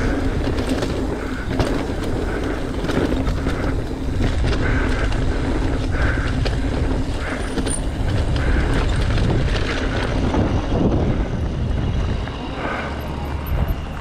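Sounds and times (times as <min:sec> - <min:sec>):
bike rattling over gravel: 0:00.0 - 0:14.0
wind rumbling on microphone: 0:00.0 - 0:14.0.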